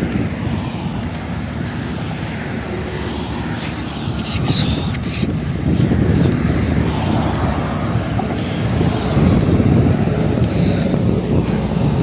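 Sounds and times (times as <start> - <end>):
road traffic: 0.0 - 12.0
wind buffeting microphone: 0.0 - 12.0.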